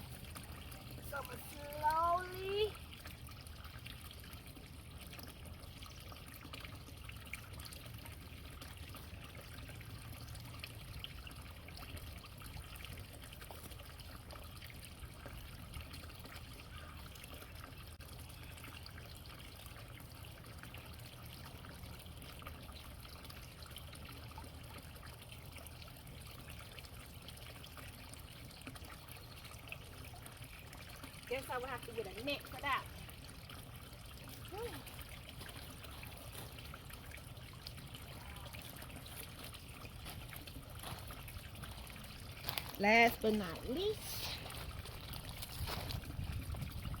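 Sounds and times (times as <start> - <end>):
faint small splashes: 0.0 - 47.0
low steady hum: 0.0 - 47.0
water trickling into pond: 0.0 - 47.0.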